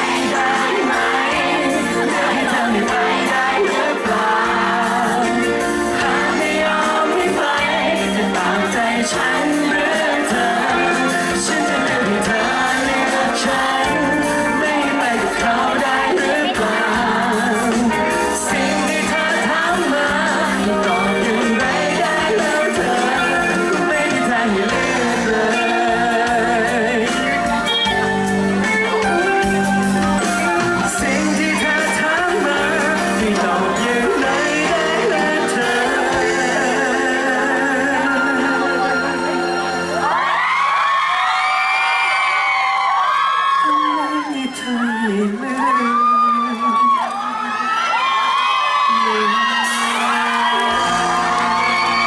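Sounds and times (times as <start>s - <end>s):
man singing into microphone: 0.0s - 27.8s, 30.2s - 40.0s, 43.5s - 47.7s, 48.9s - 52.0s
loud backing music: 0.0s - 52.0s.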